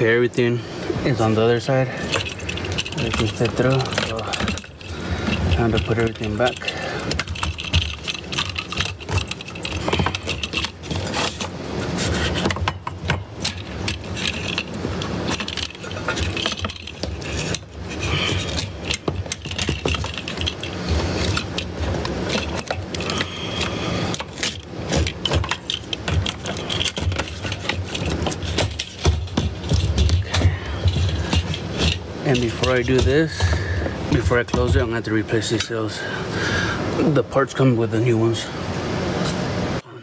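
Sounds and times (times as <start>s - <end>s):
metal and plastic parts rattling: 1.0s - 36.1s.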